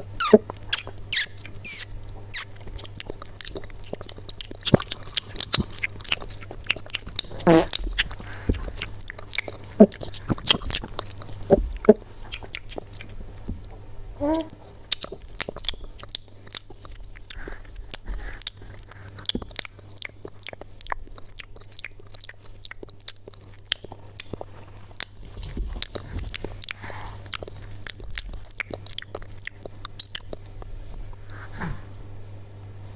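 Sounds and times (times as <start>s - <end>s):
crunchy food being chewed: 0.0s - 13.8s, 14.4s - 31.3s.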